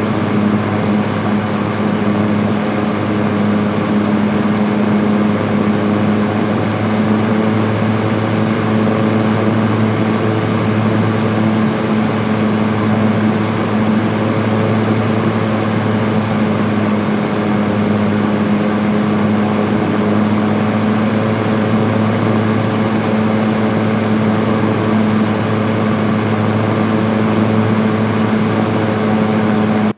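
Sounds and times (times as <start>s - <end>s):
electric fan running: 0.0s - 29.9s
motor hum: 0.0s - 29.9s.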